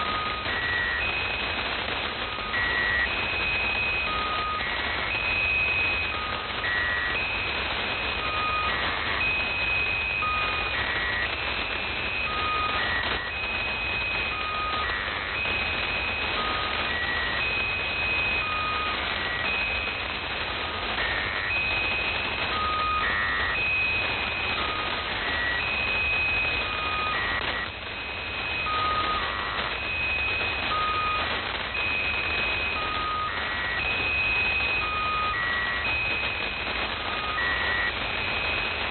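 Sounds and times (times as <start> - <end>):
radio static: 0.0 - 38.9
squeaky electronic tones: 0.0 - 38.9.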